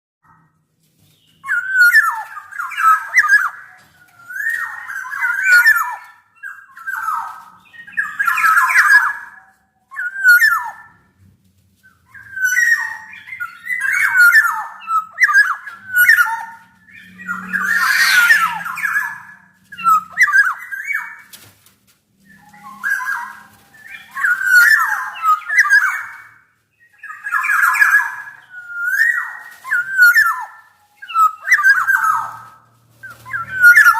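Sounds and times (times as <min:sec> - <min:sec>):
bird singing whistled notes: 0:01.1 - 0:11.0, 0:11.9 - 0:21.3, 0:22.2 - 0:33.9.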